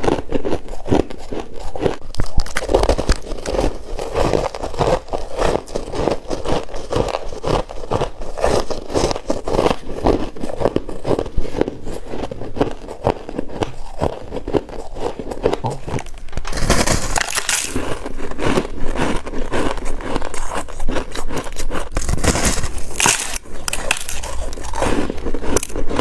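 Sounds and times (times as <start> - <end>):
person chewing frost crunchily: 0.0 - 26.0.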